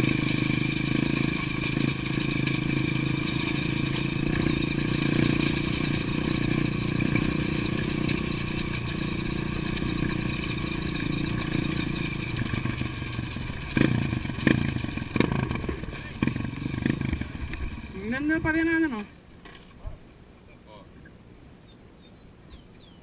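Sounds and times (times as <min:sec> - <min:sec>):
dirt bike engine running: 0:00.0 - 0:19.1.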